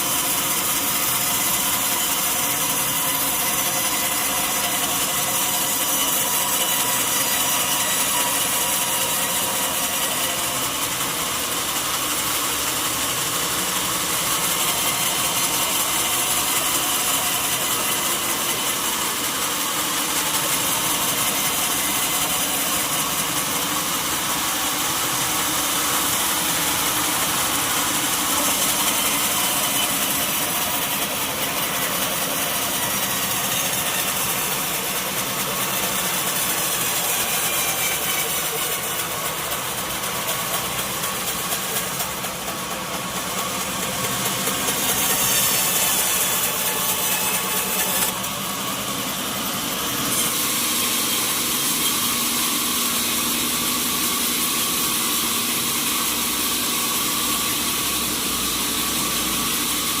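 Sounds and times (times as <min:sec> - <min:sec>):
sawmill saw ripping through log: 0:00.0 - 1:00.0
machine motor running: 0:00.2 - 1:00.0.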